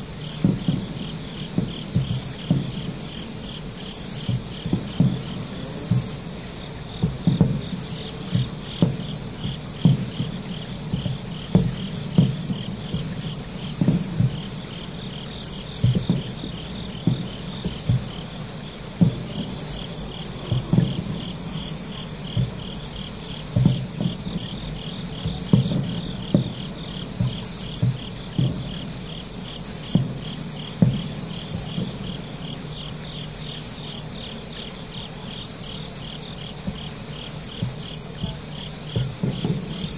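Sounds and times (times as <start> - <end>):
distant fireworks booming: 0.0 - 39.9
insects chirping: 0.0 - 39.9
insects trilling: 0.0 - 39.9.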